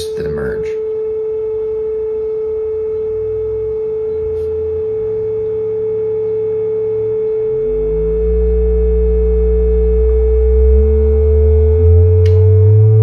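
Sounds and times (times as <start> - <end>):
steady sine tone: 0.0 - 13.0
lower tone shifting pitch: 0.7 - 13.0.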